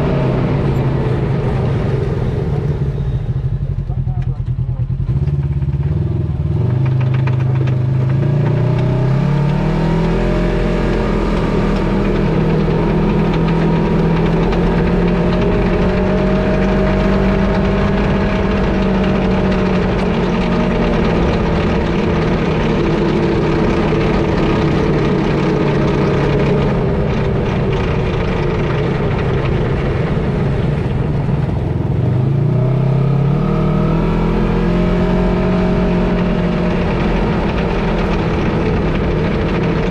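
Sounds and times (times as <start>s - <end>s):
drivetrain rattle: 0.0s - 39.9s
vehicle engine revving: 0.0s - 39.9s.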